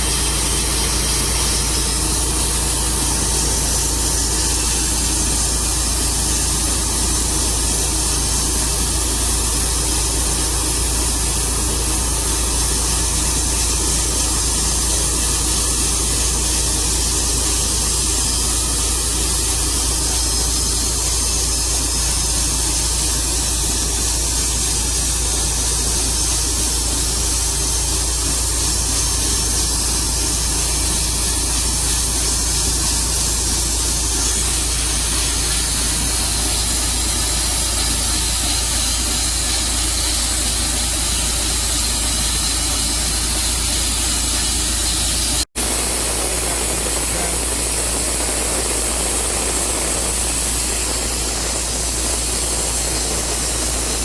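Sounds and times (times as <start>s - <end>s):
sawmill cutting log: 0.0s - 54.0s.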